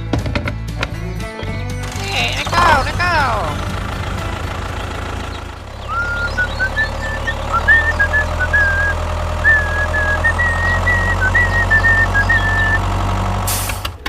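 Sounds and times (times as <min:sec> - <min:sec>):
low motor hum: 0:00.3 - 0:14.0.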